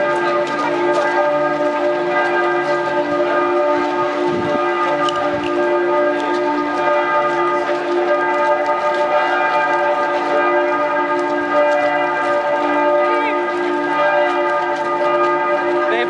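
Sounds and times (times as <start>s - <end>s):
church bells pealing: 0.0s - 16.0s.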